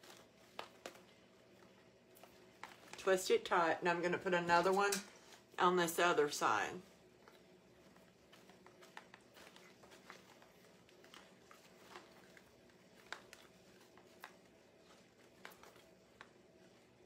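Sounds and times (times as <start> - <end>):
faint rustling of ribbon: 0.0 - 17.0.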